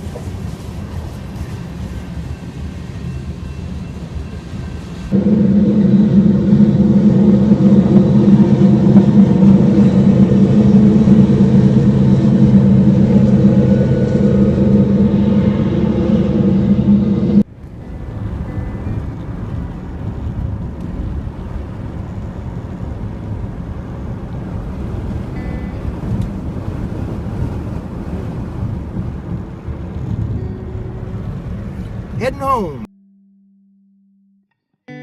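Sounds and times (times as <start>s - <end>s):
motor vehicle engine hum: 0.0s - 32.7s
road noise: 0.0s - 32.9s.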